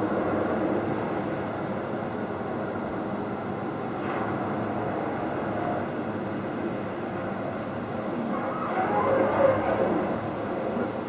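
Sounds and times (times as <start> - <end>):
low droning rumble with held tones: 0.0 - 11.0.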